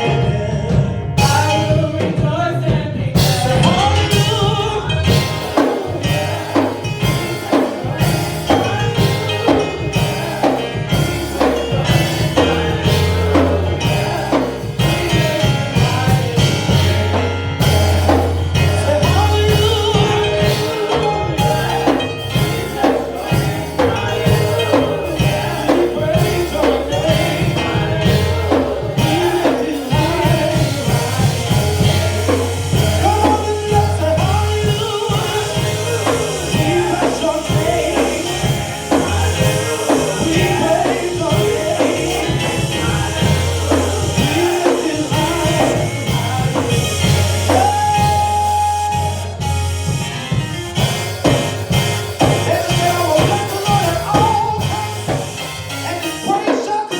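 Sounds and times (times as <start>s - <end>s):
bass: 0.0s - 56.4s
drum kit: 0.0s - 56.9s
people singing gospel: 0.0s - 56.9s.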